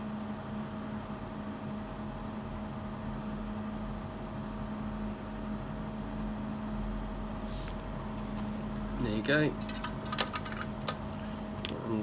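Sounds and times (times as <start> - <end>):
electrical hum with fan hiss: 0.0 - 12.0.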